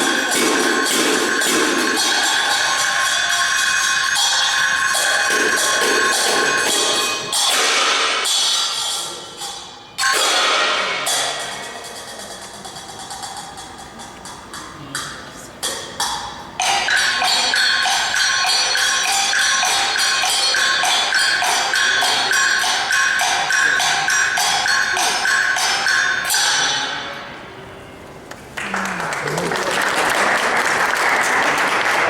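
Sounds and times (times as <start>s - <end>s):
fast percussion strokes: 0.0s - 27.4s.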